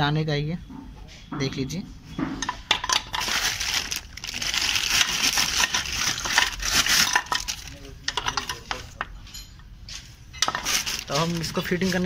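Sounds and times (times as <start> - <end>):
rustling and scraping: 0.7 - 12.0.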